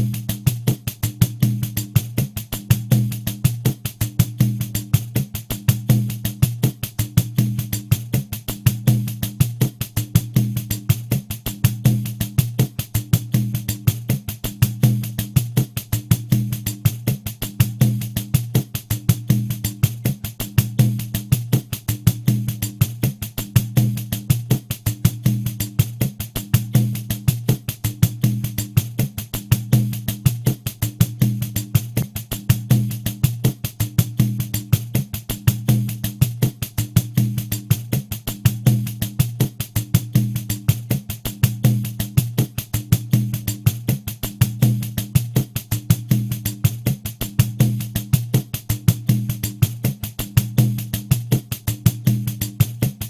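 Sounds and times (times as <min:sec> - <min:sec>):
pandeiro rhythm: 0:00.0 - 0:53.0.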